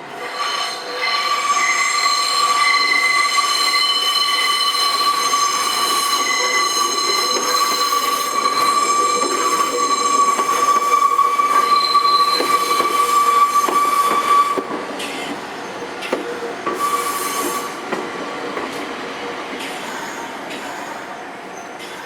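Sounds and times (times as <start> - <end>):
train wheels squealing: 0.2 - 17.9, 19.6 - 22.0.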